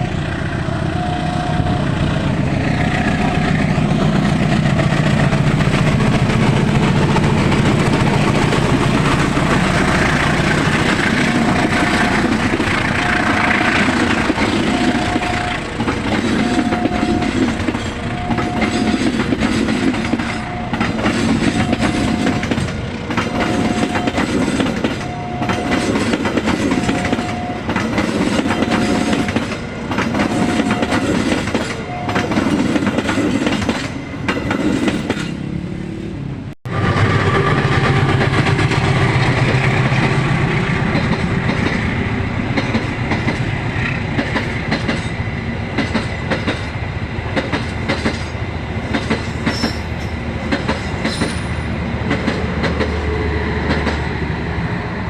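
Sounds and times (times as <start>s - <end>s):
locomotive engine drone: 0.0s - 55.0s
train wheels clattering on rails: 2.6s - 35.5s, 36.7s - 54.6s.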